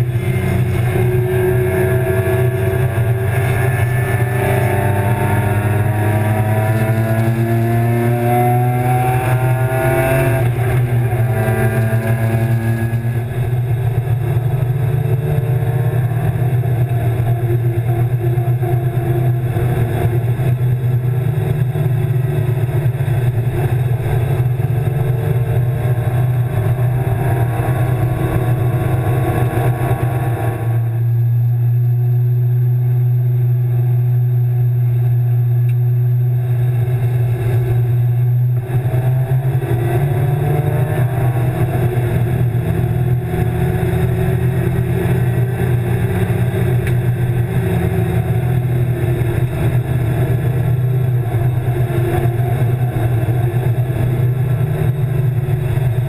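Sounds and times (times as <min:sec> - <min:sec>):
car engine revving through gears: 0:00.0 - 0:31.4, 0:36.0 - 0:56.0.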